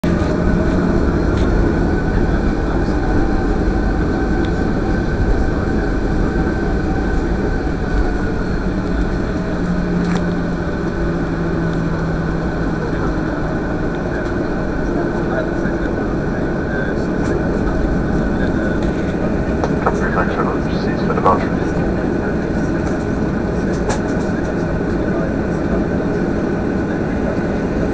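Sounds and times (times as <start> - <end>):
aircraft engines rumbling: 0.0 - 27.9.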